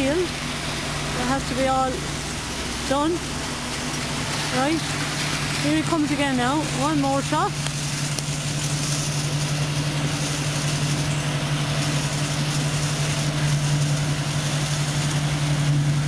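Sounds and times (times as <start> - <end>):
combine harvester engine hum: 0.0 - 16.0
machinery hiss: 0.0 - 16.0.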